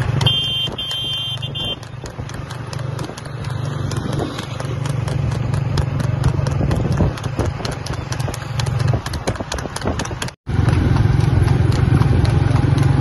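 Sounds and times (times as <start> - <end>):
horse hooves clattering on asphalt: 0.0 - 13.0
motor vehicle engine running: 0.0 - 13.0.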